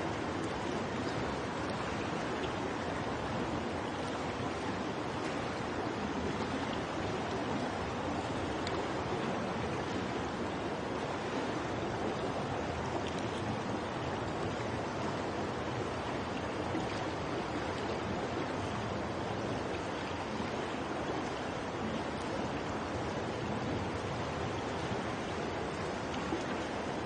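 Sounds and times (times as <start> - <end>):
pool hall water noise: 0.0 - 27.0.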